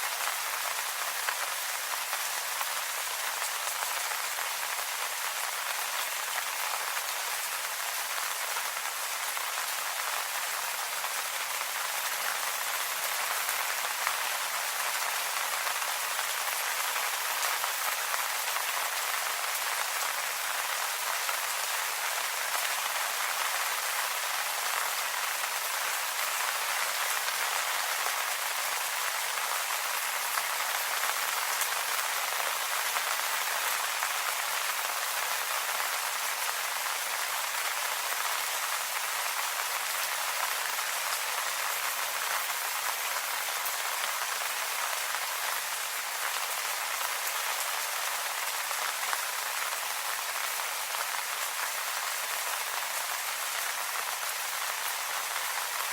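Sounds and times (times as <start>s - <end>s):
rain falling on leaves: 0.0s - 55.9s.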